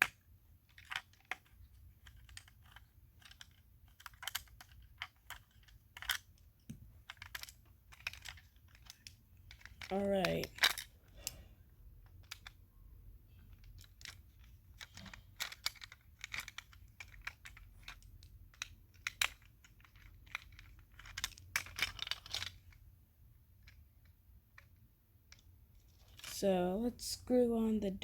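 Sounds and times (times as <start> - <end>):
toy car parts clicking: 0.0 - 11.4, 12.0 - 12.6, 13.4 - 22.8, 23.6 - 26.4.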